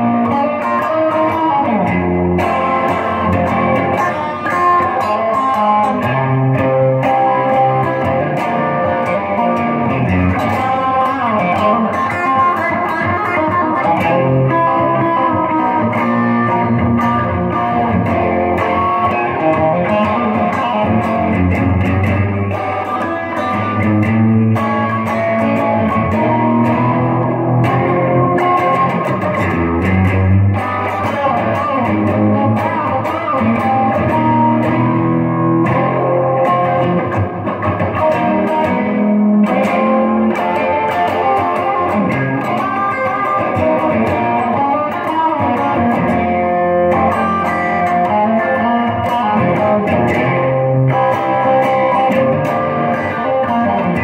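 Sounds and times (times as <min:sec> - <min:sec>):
electric guitar playing: 0:00.0 - 0:54.0.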